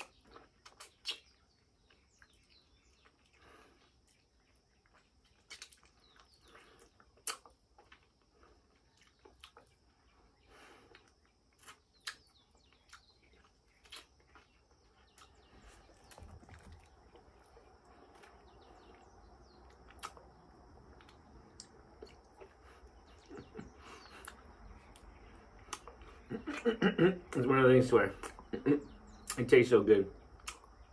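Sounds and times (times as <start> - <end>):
person chewing food: 0.0 - 27.5, 28.2 - 29.4, 30.4 - 30.9.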